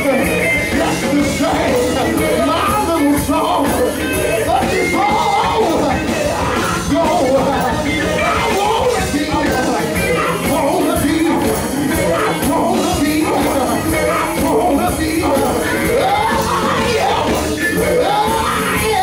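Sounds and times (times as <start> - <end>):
band playing gospel music: 0.0 - 19.0
man singing into microphone: 0.0 - 19.0.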